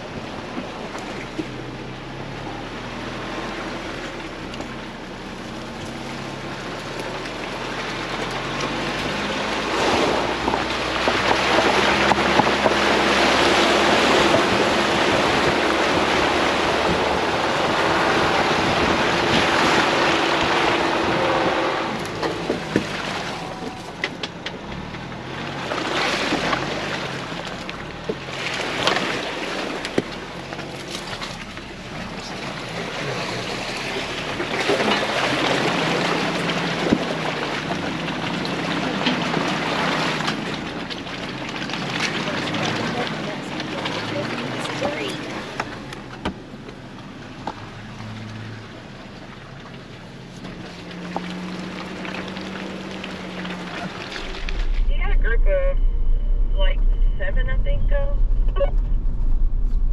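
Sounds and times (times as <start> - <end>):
tyres splashing through mud puddle: 0.0 - 55.7
car engine running low: 0.0 - 59.9.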